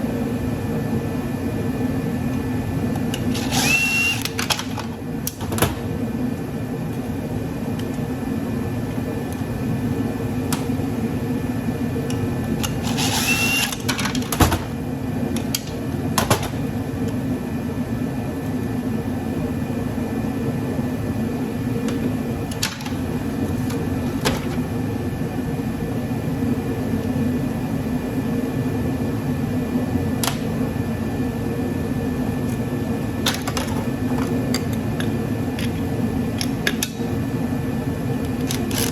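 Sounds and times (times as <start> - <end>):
heater droning: 0.0 - 38.9.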